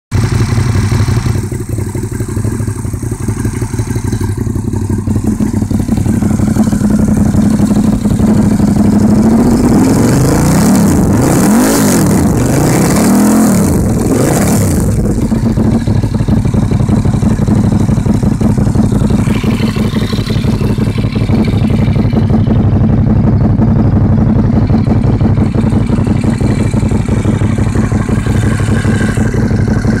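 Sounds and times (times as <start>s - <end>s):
motorcycle engine idling and revving: 0.1s - 30.0s.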